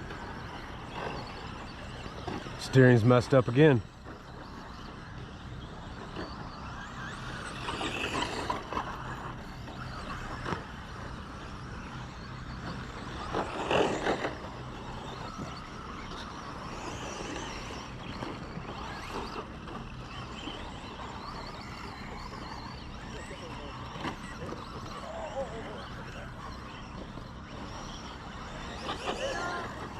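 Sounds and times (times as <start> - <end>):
rc truck motors whining: 0.0 - 29.9.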